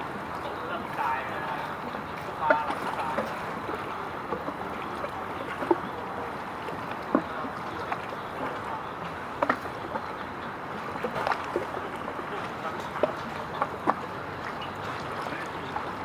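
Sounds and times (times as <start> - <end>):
waterside noise: 0.0 - 16.0.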